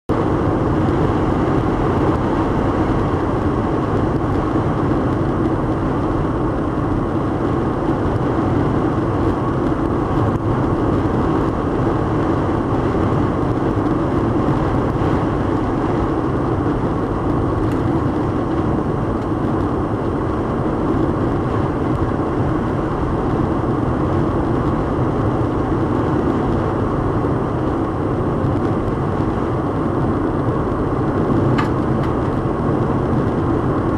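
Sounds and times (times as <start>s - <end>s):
road noise inside a car: 0.1s - 33.9s
strong wind: 0.1s - 33.9s.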